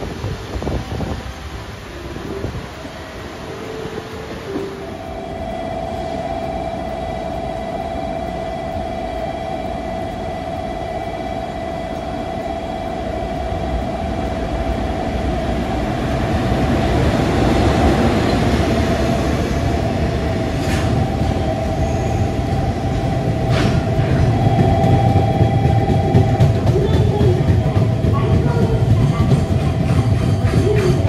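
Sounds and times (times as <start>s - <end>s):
freight train rumbling past: 0.0s - 31.0s
steady hum: 1.0s - 30.8s.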